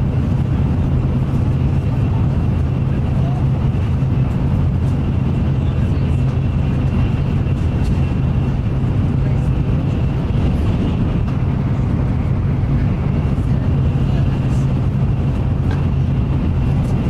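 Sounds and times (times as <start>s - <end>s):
train low rumble and air rush: 0.0s - 17.0s.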